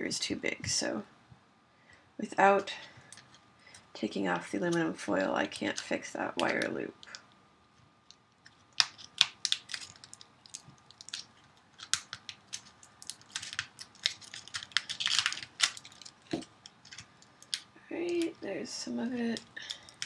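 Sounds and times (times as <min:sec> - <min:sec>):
aluminum foil crinkling: 0:03.1 - 0:07.3, 0:08.1 - 0:20.0.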